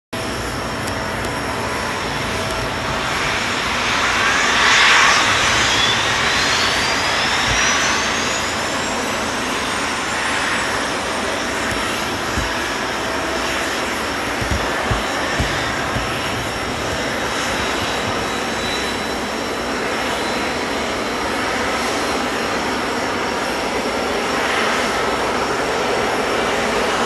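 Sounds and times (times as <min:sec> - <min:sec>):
jet engine roar with whine: 0:00.2 - 0:27.0.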